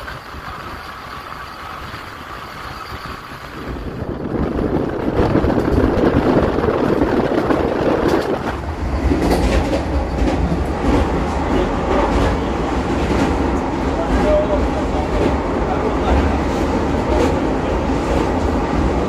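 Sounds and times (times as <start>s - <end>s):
train wheels rumbling on track: 0.0s - 19.0s
wheels clacking over rail joints: 0.0s - 19.0s.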